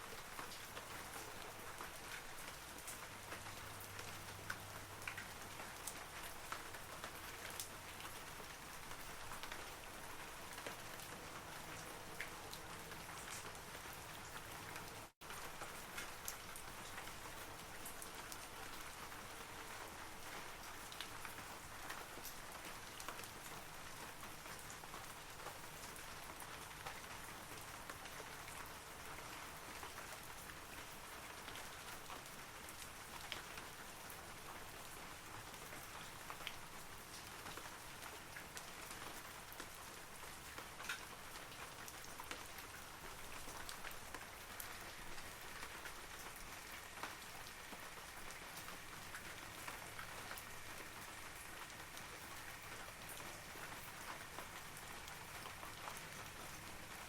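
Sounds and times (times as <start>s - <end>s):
rain falling on trees: 0.0s - 57.0s.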